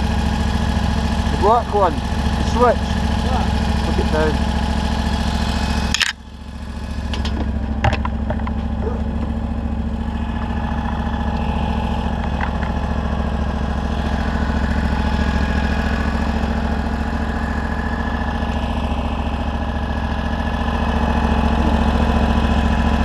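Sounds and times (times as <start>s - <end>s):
small petrol engine idling: 0.0s - 23.0s.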